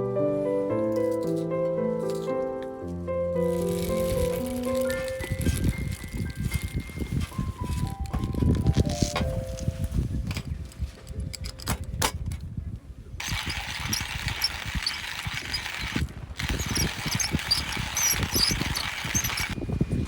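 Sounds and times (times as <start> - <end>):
wind buffeting microphone: 3.9 - 20.0.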